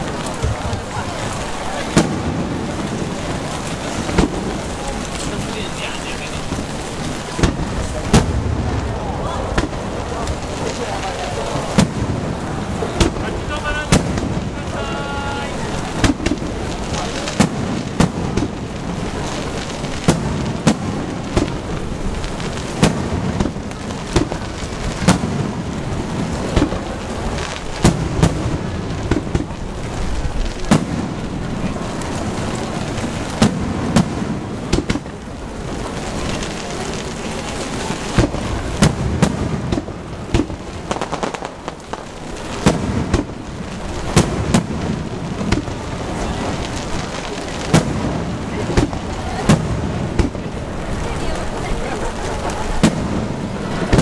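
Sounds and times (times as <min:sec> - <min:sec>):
firework shells booming: 0:00.0 - 0:54.0
rain hissing: 0:00.0 - 0:54.0.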